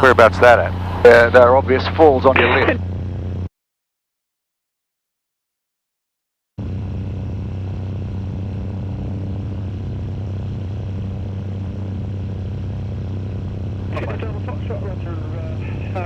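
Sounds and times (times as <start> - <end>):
light airplane engine drone in cabin: 0.0 - 3.5, 6.6 - 16.0.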